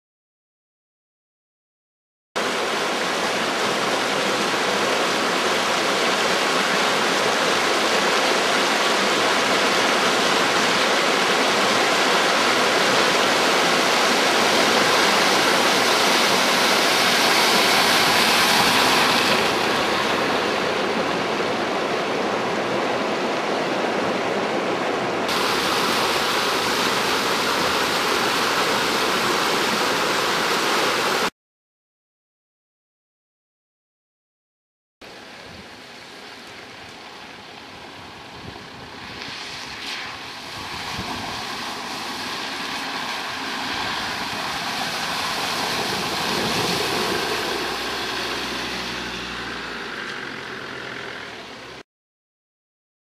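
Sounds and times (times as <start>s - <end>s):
vehicle splashing through water: 2.4s - 23.4s, 25.3s - 31.3s, 35.1s - 51.8s
river water rushing over a ford: 2.4s - 31.3s, 35.0s - 51.8s.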